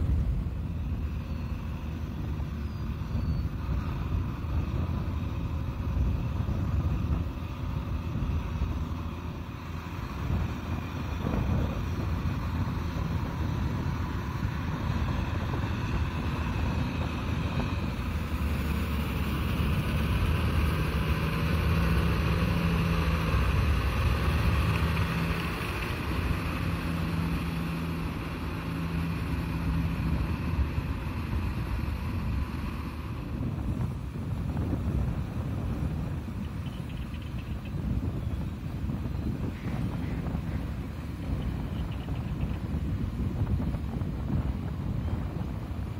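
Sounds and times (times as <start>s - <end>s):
tractor diesel engine droning: 0.0s - 45.9s.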